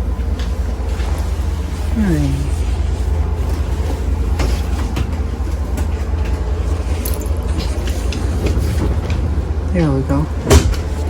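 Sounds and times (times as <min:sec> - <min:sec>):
vehicle rumble from inside: 0:00.0 - 0:11.0.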